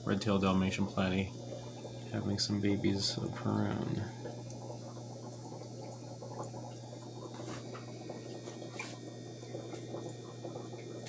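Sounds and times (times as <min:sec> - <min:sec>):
aquarium air bubbling: 0:00.0 - 0:11.0
low steady hum: 0:00.0 - 0:11.0.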